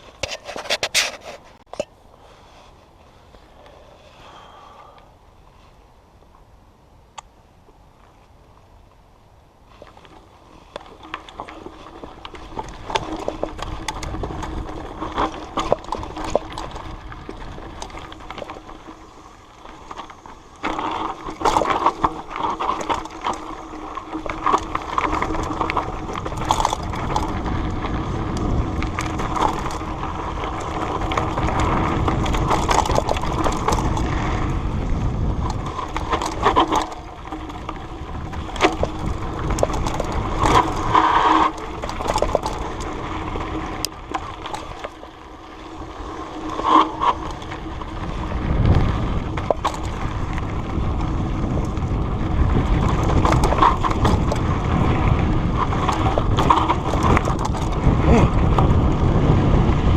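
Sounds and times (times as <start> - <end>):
crunching movement on dirt trail: 0.0 - 59.9.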